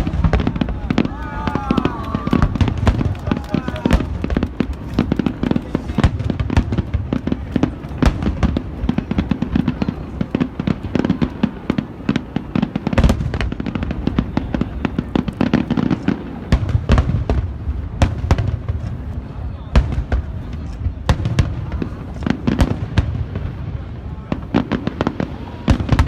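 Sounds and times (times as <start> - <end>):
fireworks bangs and crackles: 0.0 - 26.0
fireworks booms: 0.0 - 26.0.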